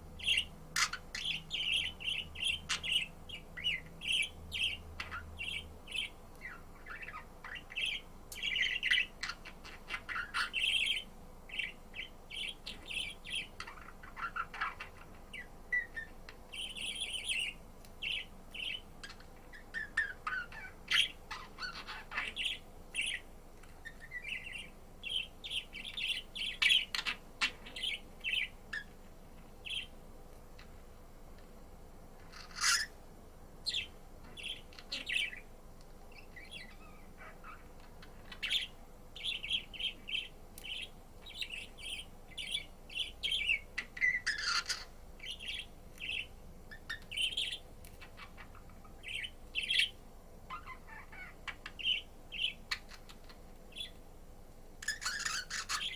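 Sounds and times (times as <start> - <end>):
budgerigar chirping and warbling: 0.2 - 23.2, 23.8 - 28.9, 32.3 - 33.0, 33.7 - 35.5, 36.1 - 54.0, 54.8 - 55.9.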